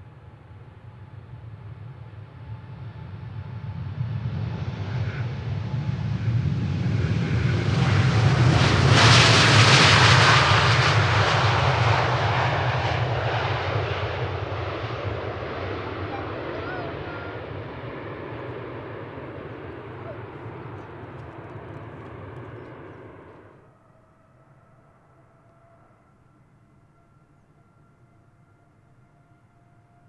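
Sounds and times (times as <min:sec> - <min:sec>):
jet airliner taking off: 0:00.0 - 0:25.4.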